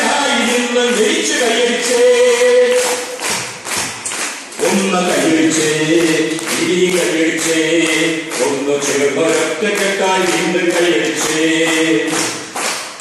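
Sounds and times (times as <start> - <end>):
man singing into a microphone: 0.0 - 3.2, 4.6 - 12.6.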